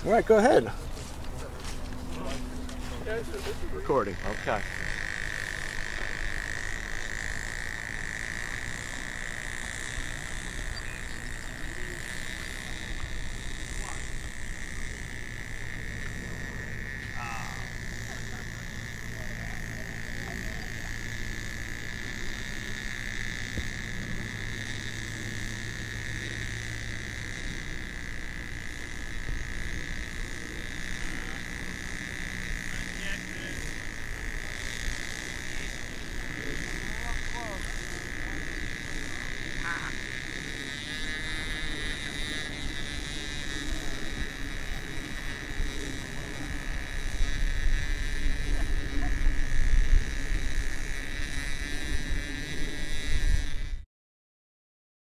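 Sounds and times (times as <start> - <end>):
insects chirring: 0.0 - 53.8.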